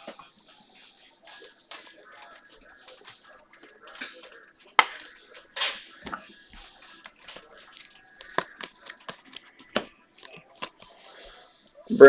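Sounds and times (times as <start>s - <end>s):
cards flicking and rustling: 1.3s - 11.2s.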